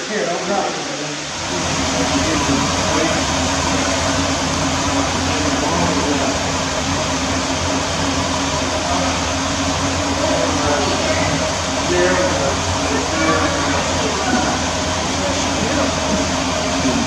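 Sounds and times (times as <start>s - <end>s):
machine hum: 0.0s - 17.0s
loud rushing noise: 0.7s - 17.0s.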